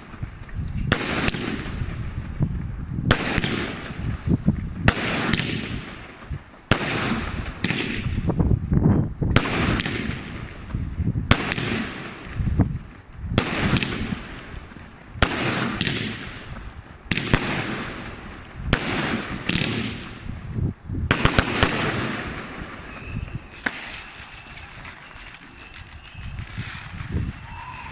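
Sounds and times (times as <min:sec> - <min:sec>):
fireworks bangs: 0:00.0 - 0:27.9
fireworks crackling and hiss: 0:00.0 - 0:27.9.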